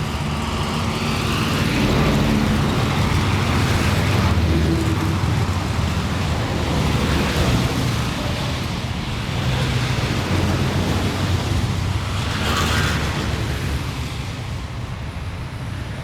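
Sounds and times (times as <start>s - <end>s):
passing cars: 0.0s - 16.0s.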